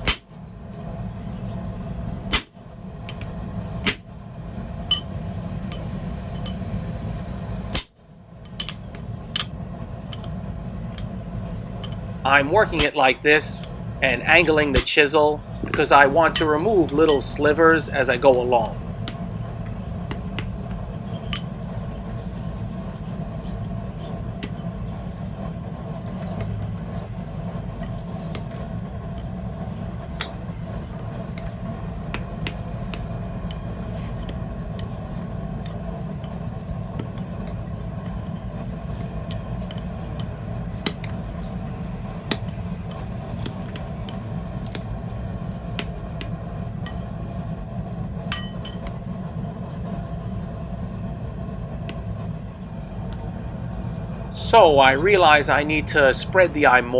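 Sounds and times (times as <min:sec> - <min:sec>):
steady low rumble: 0:00.0 - 0:56.9.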